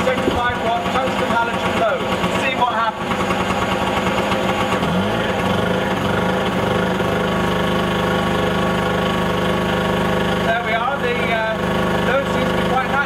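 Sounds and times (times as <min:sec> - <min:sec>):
portable generator engine running: 0:00.0 - 0:13.0.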